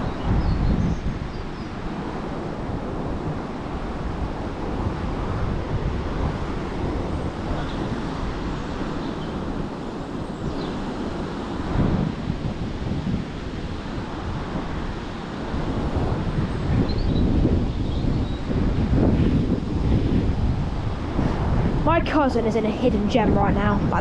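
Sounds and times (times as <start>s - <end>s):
strong wind on microphone: 0.0s - 24.0s.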